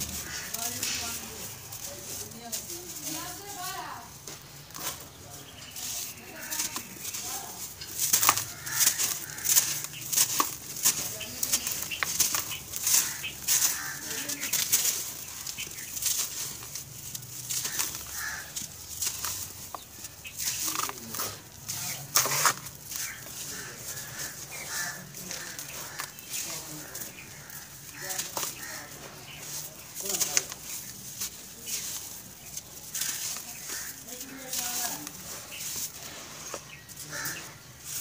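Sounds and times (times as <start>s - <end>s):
hands crumbling gritty chunks: 0.0s - 38.0s.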